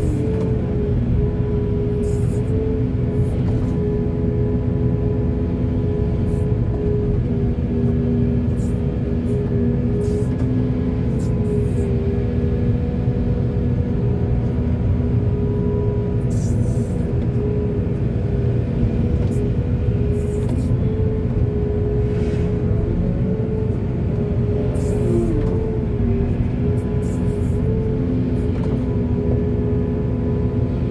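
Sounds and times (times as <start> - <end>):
excavator diesel engine rumbling: 0.0 - 30.9.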